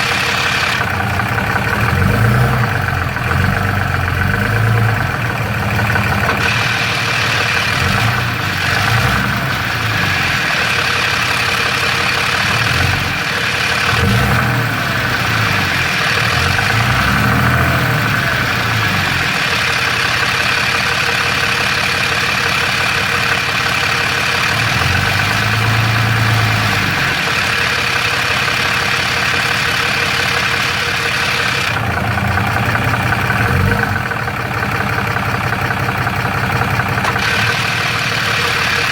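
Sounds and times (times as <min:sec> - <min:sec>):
diesel engine idling: 0:00.0 - 0:38.9
engine rattle: 0:00.0 - 0:38.9.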